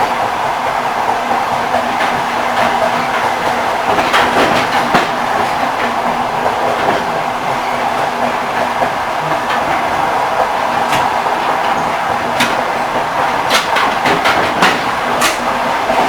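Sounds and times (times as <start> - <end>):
train wheels rumbling on track: 0.0 - 16.0
wheels clacking over rail joints: 1.1 - 16.0.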